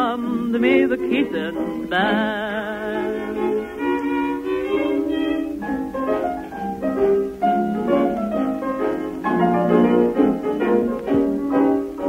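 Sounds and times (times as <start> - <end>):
dance orchestra on old record: 0.0 - 12.0.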